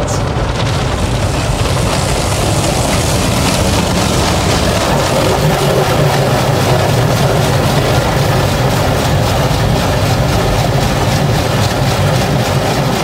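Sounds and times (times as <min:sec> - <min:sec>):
car wash machinery humming: 0:00.0 - 0:13.0
water spraying over car: 0:00.0 - 0:13.0.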